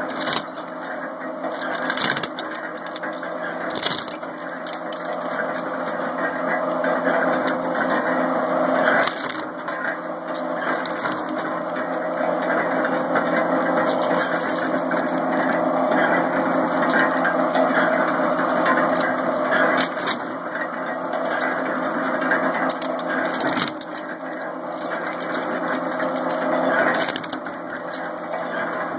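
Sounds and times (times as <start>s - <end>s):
sharp cracks of cutting metal: 0.0s - 8.1s, 8.8s - 28.3s
metal shear humming: 0.0s - 28.9s.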